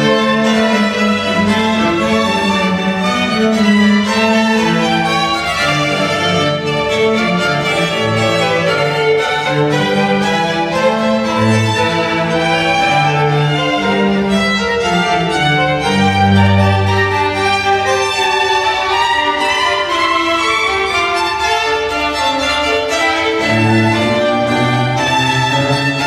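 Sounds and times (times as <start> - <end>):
string ensemble playing classical music: 0.0 - 26.0.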